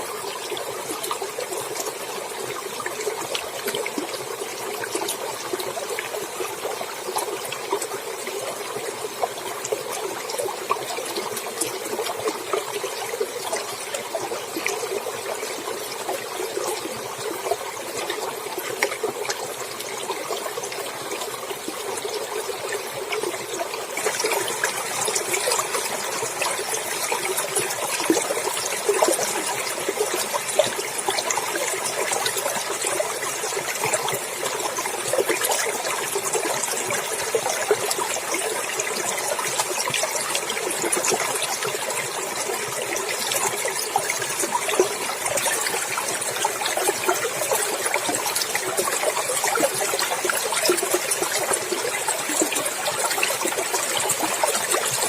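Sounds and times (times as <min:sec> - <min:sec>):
stream water babbling over rocks: 0:00.0 - 0:55.0.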